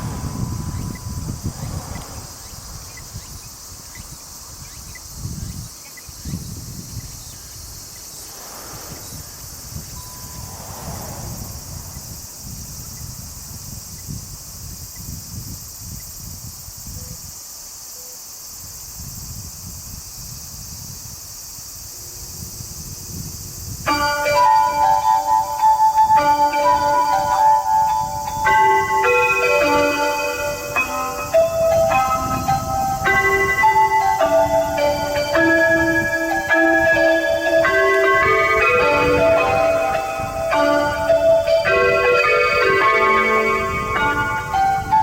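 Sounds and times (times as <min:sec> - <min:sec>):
wind rumble on microphone: 0:00.0 - 0:17.4, 0:18.4 - 0:45.0
high-pitched insect chorus: 0:00.0 - 0:45.0.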